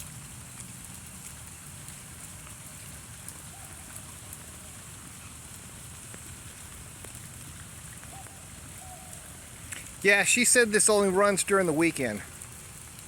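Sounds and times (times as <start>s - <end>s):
rain hissing: 0.0s - 13.0s
raindrops ticking: 0.0s - 13.0s.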